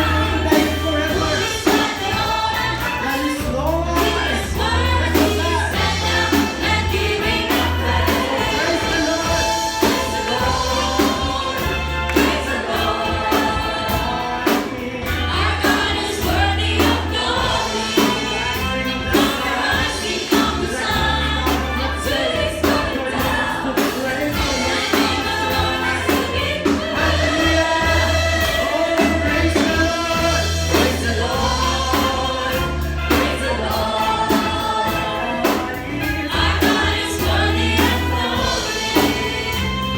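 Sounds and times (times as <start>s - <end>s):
band with bass and drums: 0.0s - 39.9s
group of voices singing: 0.0s - 39.9s.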